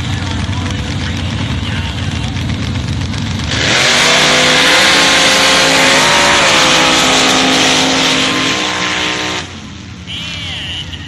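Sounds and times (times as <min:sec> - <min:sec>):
truck engines at full throttle: 0:00.0 - 0:11.0.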